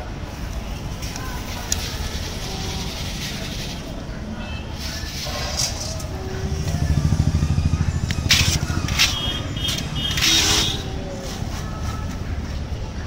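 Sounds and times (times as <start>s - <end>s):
street traffic engine rumble: 0.0s - 13.0s.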